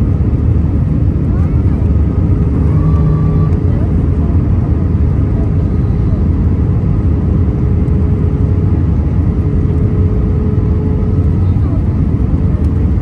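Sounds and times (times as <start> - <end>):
airliner cabin rumble: 0.0 - 13.0
faint steady hum: 0.0 - 13.0.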